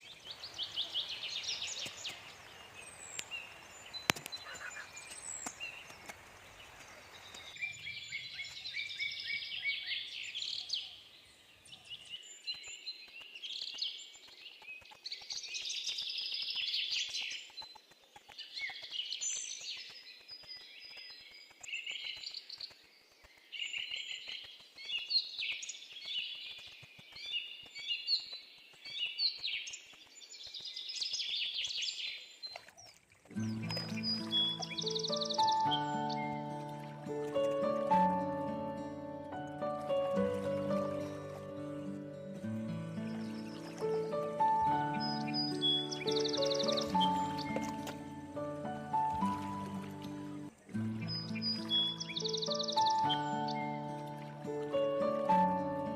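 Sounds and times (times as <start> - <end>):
small birds chirping and singing: 0.0 - 55.9.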